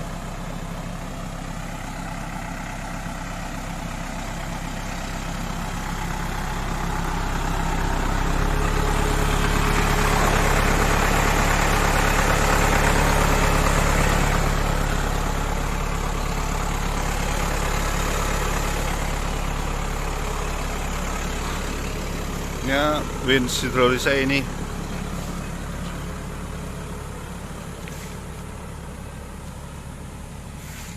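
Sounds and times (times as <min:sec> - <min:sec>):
tow truck engine running: 0:00.0 - 0:30.9.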